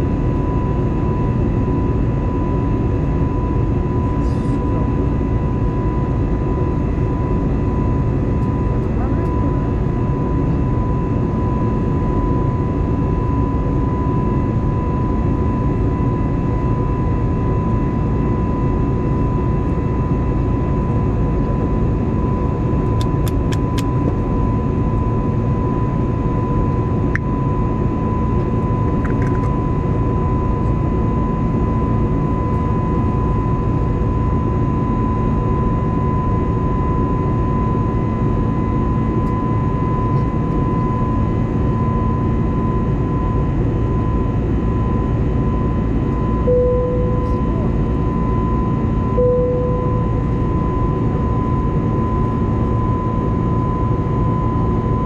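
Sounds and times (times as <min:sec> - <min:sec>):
airplane cabin noise with whine: 0:00.0 - 0:55.0.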